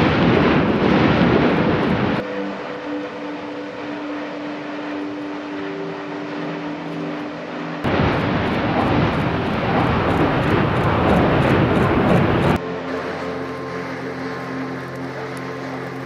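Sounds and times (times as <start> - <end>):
volcanic vent roaring: 0.0 - 16.0.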